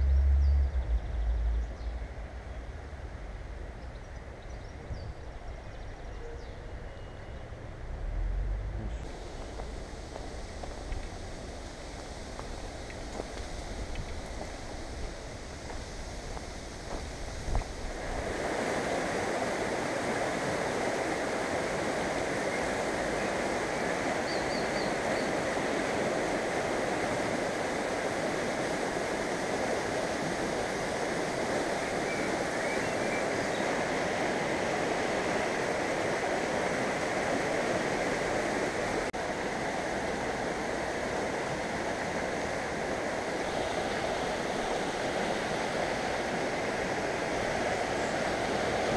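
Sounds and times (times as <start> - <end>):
wind rumble on microphone: 0.0 - 6.8, 7.5 - 48.9
river rushing over rocks: 7.8 - 48.9.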